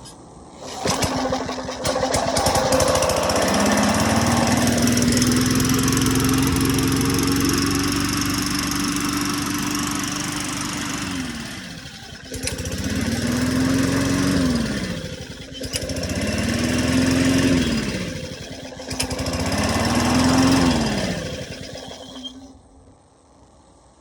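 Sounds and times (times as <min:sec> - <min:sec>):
lawn mower engine revving: 0:00.0 - 0:22.5.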